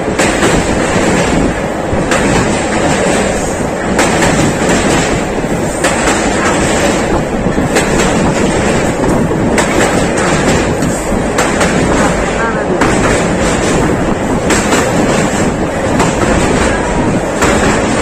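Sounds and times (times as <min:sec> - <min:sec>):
train wheels rumbling on rails: 0:00.0 - 0:18.0
wheels clacking over rail joints: 0:00.0 - 0:18.0.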